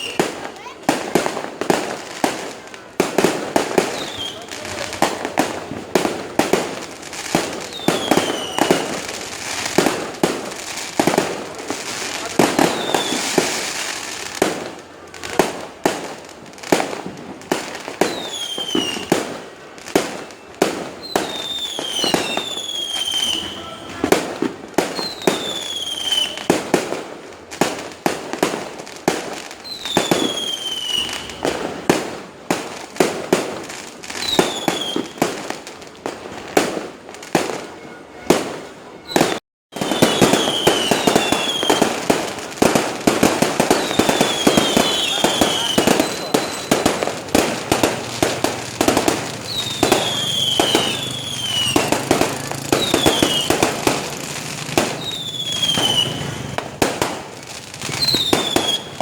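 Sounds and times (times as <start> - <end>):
fireworks banging: 0.0 - 59.0
fireworks whistling: 0.0 - 59.0.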